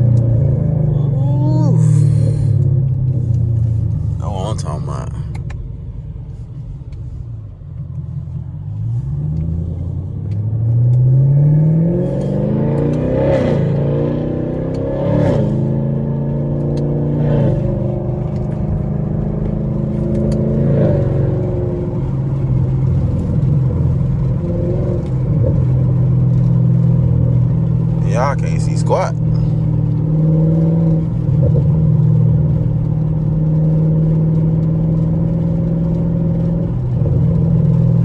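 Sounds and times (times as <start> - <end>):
car exhaust accelerating: 0.0 - 38.0.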